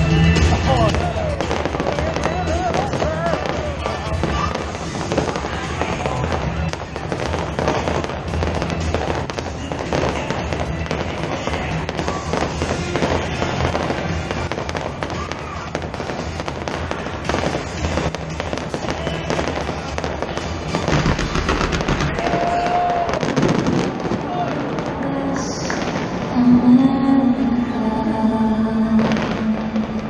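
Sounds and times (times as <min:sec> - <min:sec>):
fireworks bangs and crackling: 0:00.0 - 0:26.5, 0:29.0 - 0:30.0
music playing: 0:00.0 - 0:30.0.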